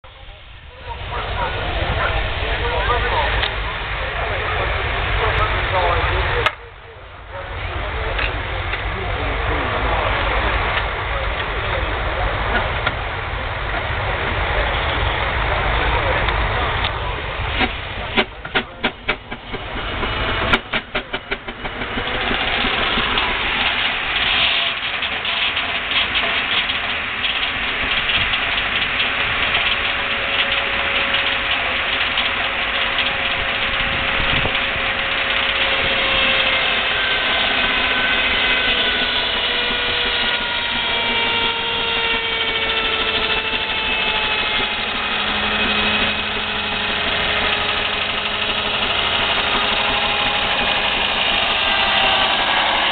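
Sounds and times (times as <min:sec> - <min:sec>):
log saw whirring and whining: 0:07.6 - 0:52.9.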